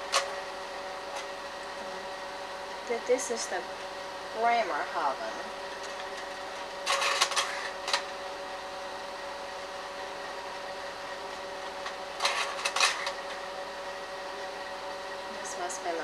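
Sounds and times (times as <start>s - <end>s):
projector fan humming: 0.0s - 16.0s.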